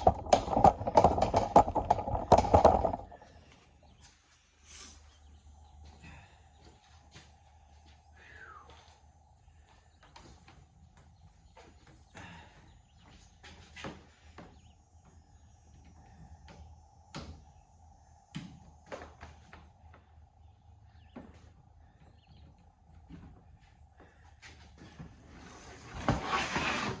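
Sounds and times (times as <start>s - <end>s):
faint steady hum: 0.0s - 26.2s.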